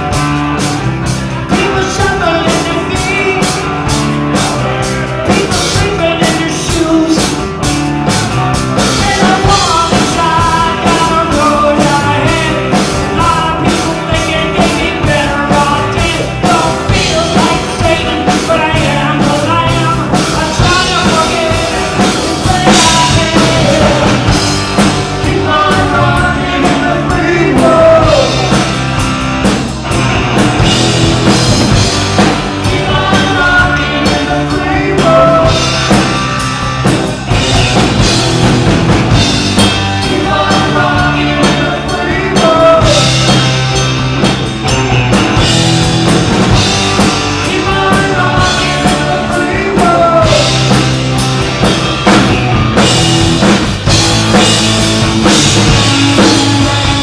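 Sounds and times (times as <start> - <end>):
live rock band playing: 0.0 - 57.0
man singing: 1.4 - 7.7, 8.3 - 29.6, 30.4 - 38.1, 39.2 - 45.6, 46.5 - 51.7, 54.3 - 57.0.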